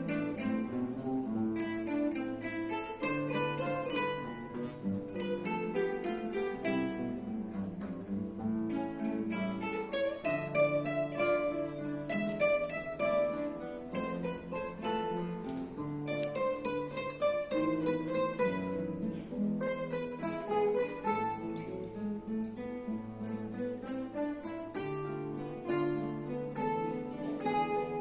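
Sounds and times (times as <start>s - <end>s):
acoustic guitars playing dance music: 0.0s - 28.0s.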